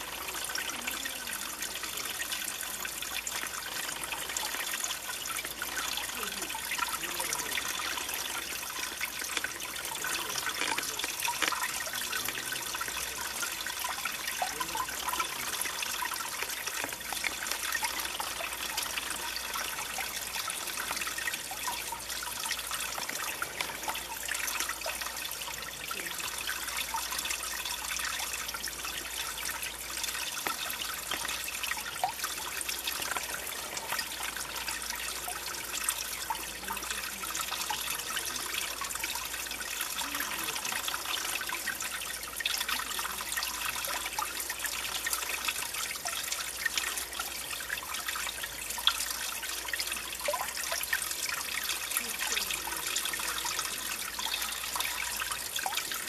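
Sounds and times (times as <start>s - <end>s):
stream water rushing and splashing: 0.0s - 56.0s.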